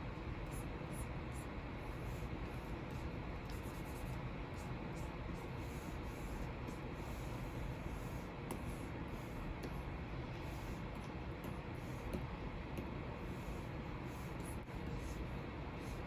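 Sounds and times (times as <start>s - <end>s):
pen nib scratching on tablet: 0.4s - 16.0s.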